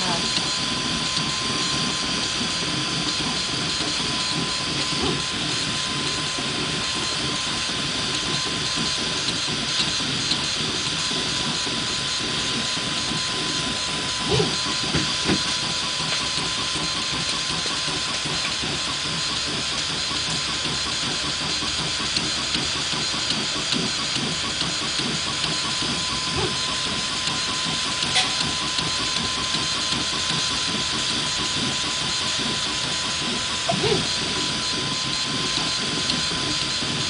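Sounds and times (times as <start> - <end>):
stepper motor buzzes: 0.0 - 37.0.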